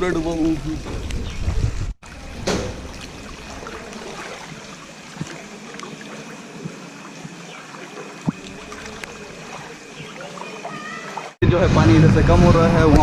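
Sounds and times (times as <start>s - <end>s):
water sloshing while wading: 0.4s - 11.4s.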